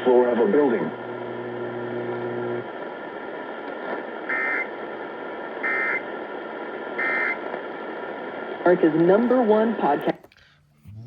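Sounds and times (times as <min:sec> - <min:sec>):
radio hiss: 0:00.0 - 0:10.2.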